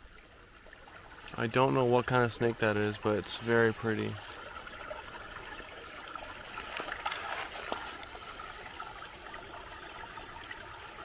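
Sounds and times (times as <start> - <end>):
stream trickling: 0.0 - 11.0.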